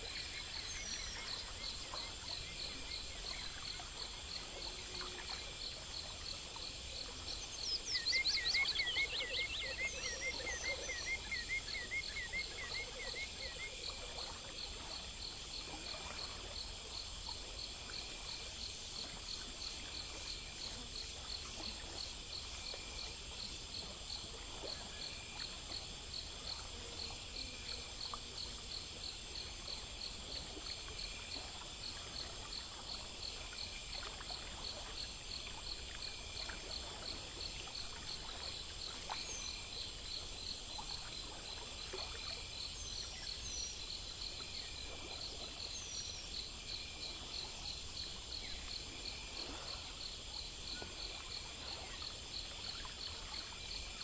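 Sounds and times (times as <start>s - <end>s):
crickets and insects trilling: 0.0s - 54.0s
faint water trickle: 0.0s - 54.0s.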